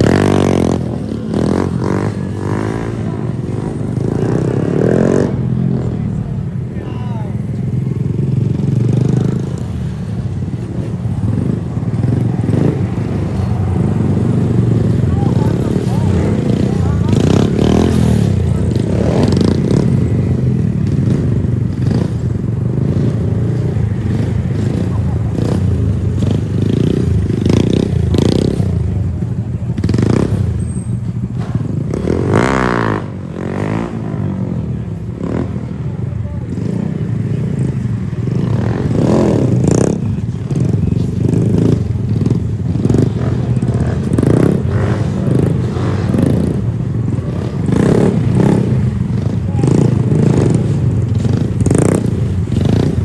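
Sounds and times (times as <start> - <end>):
small motorbike engines revving: 0.0 - 53.0.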